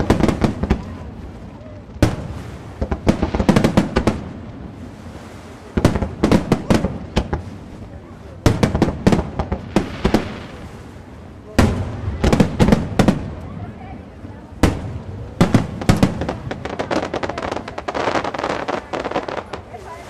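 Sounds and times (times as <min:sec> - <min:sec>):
fireworks bursting with sharp bangs: 0:00.0 - 0:13.7, 0:14.5 - 0:20.0.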